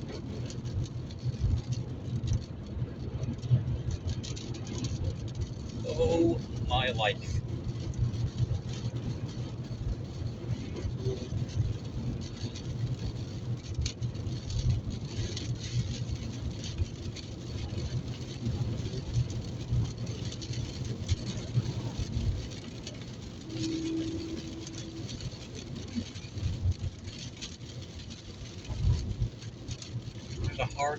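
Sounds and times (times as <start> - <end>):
engine and tyre rumble: 0.0 - 30.9
rain on roof and windscreen: 0.0 - 30.9.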